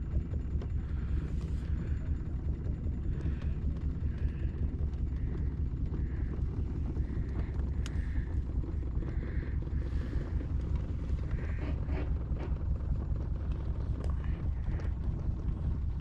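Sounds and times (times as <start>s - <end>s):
boat engine low rumble: 0.0s - 16.0s.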